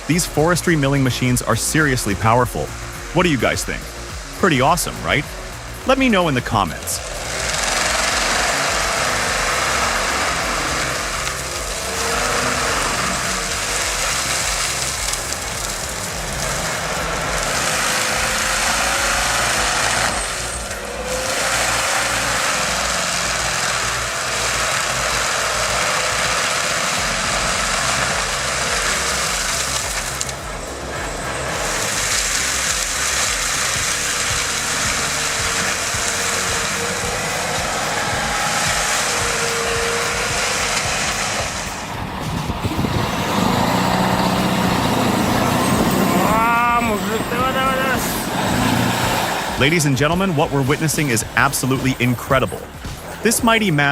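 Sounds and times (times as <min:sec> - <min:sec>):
engine drone: 0:00.0 - 0:53.9
forestry machine grinding: 0:00.0 - 0:53.9.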